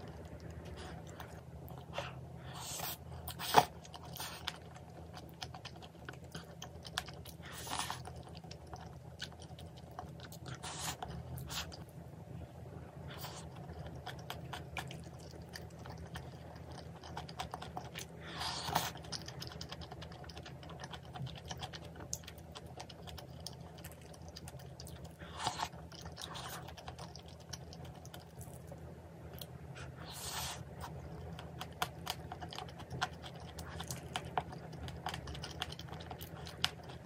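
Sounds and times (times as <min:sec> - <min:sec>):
person chewing: 0:00.0 - 0:11.9, 0:13.1 - 0:37.0
steady low hum: 0:00.0 - 0:37.0.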